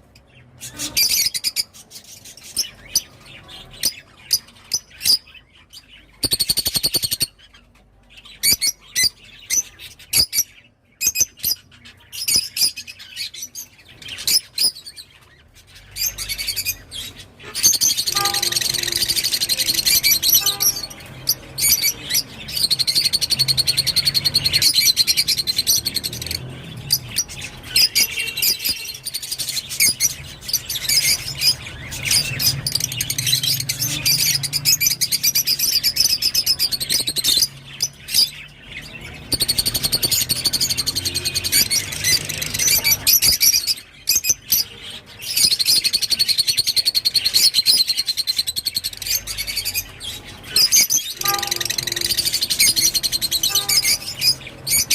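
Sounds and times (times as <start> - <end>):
lovebird chirping: 0.1 - 54.9.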